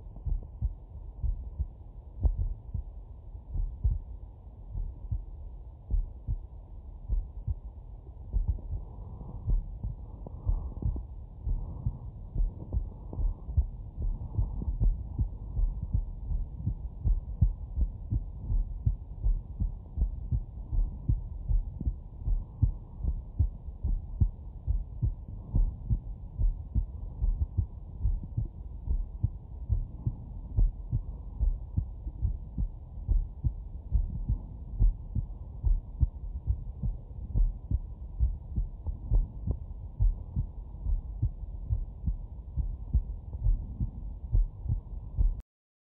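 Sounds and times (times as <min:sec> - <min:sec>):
heartbeat thuds: 0:00.0 - 0:45.4.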